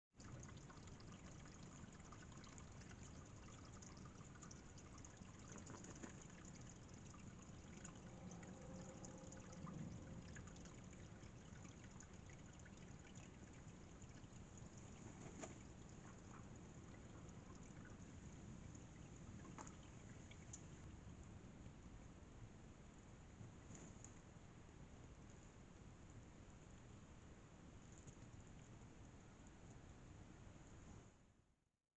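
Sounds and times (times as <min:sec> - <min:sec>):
faint water trickle: 0:00.1 - 0:31.5.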